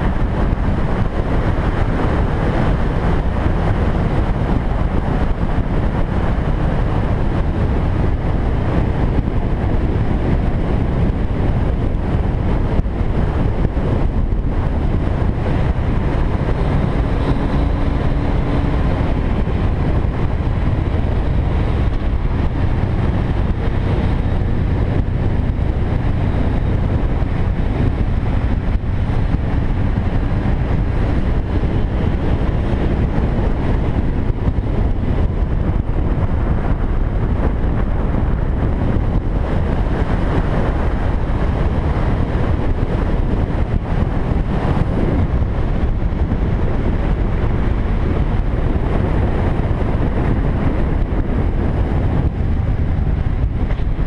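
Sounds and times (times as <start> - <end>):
motorcycle engine: 0.0 - 54.0
road noise: 0.0 - 54.0
wind rushing over microphone: 0.0 - 54.0.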